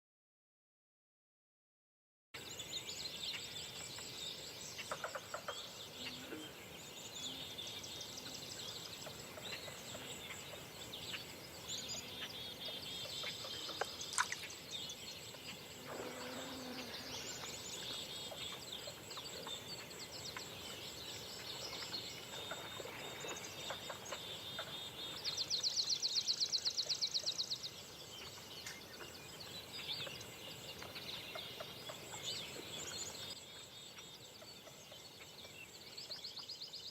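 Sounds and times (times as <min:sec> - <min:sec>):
birds singing and chirping: 0:02.4 - 0:36.9
steady background hiss: 0:02.4 - 0:36.9.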